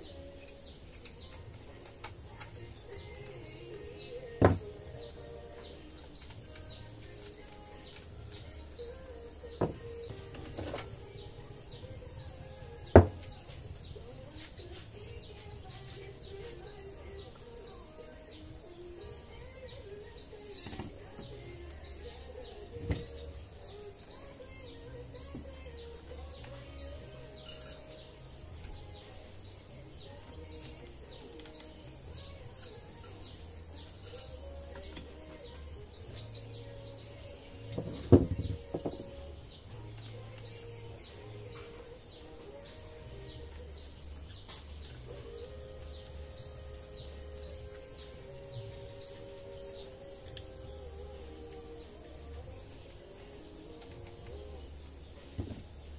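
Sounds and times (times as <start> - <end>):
bird chirping: 0.0 - 55.9.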